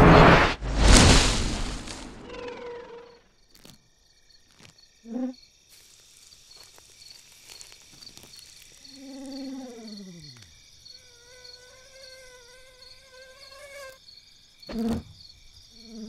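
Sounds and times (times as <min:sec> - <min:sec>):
crickets chirping: 0:00.9 - 0:16.0.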